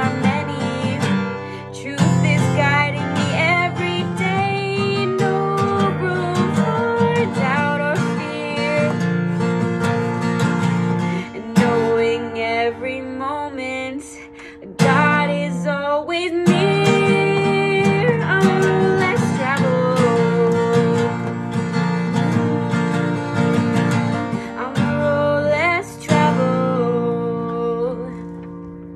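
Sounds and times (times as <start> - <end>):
person singing: 0.0 - 9.7, 10.8 - 28.5
acoustic guitar strumming: 0.0 - 28.9.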